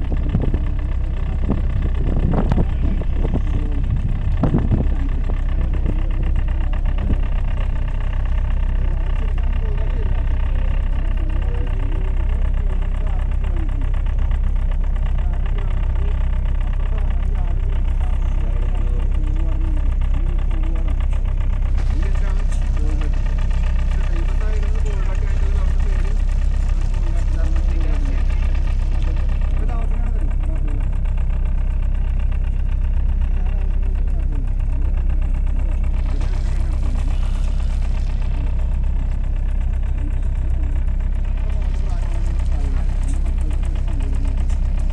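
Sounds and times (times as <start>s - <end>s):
boat engine rumbling: 0.0s - 44.9s
people talking: 0.0s - 44.9s.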